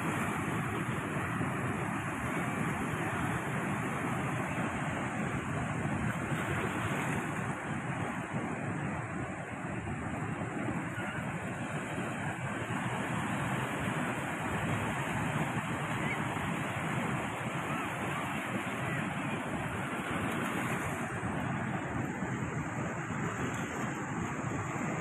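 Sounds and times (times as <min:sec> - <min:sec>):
surf washing among rocks: 0:00.0 - 0:25.0.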